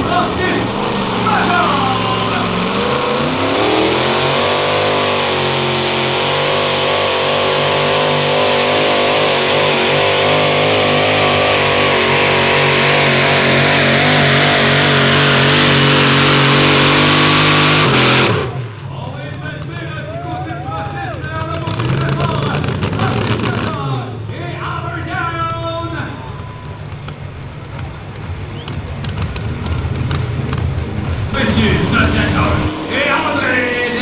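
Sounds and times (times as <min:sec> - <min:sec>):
tractor engine at full throttle: 0:00.0 - 0:34.0.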